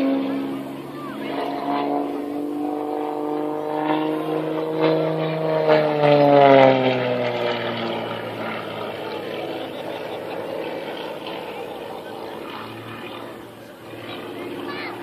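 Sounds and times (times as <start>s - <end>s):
propeller plane droning overhead: 0.0s - 15.0s.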